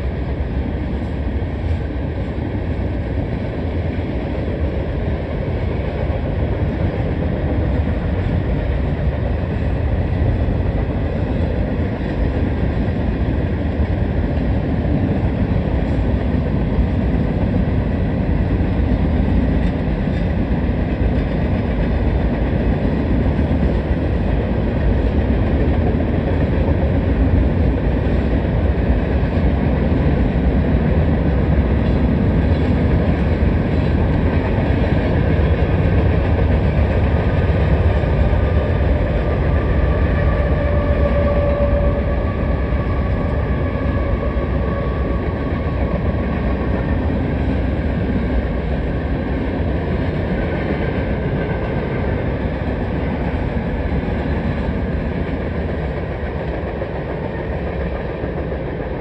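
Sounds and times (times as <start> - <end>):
freight train rumbling past: 0.0 - 59.0
wheels clattering on rails: 3.3 - 59.0.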